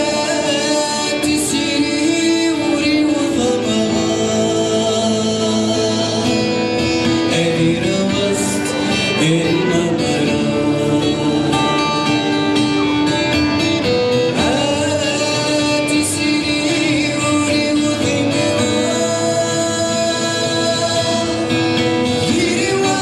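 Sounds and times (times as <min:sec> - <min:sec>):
person singing long notes: 0:00.0 - 0:13.4, 0:14.3 - 0:23.0
plucked guitar: 0:00.0 - 0:23.0.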